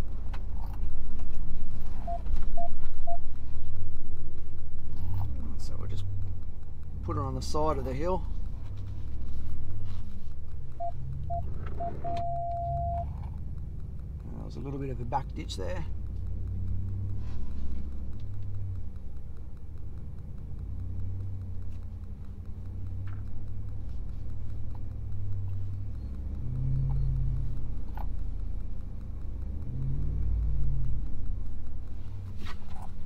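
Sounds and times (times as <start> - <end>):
faint clicks: 0.1 - 33.0.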